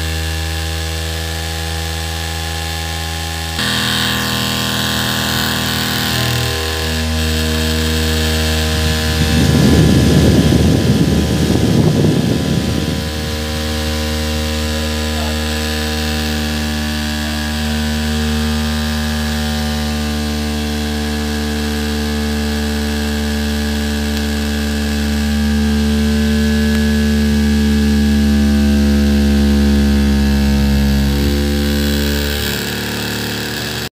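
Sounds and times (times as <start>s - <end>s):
rattling buzz: 0.0s - 33.9s
small motor whirring: 0.0s - 33.9s.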